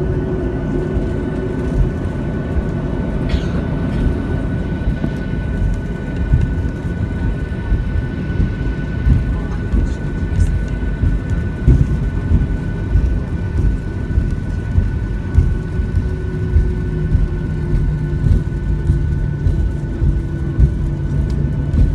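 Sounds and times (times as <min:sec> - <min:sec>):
airplane cabin rumble with bumps: 0:00.0 - 0:21.9
steady high whine: 0:00.0 - 0:21.9.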